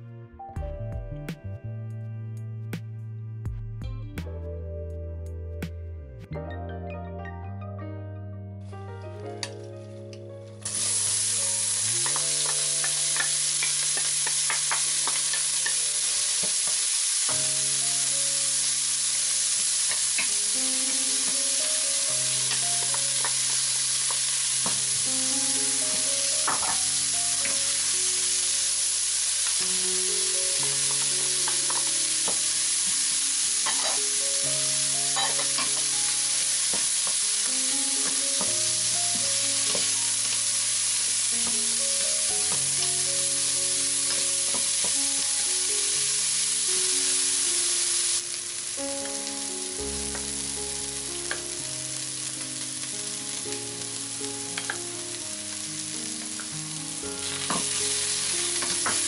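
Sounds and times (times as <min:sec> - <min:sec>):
vegetables sizzling in hot oil: 0:10.6 - 0:59.0.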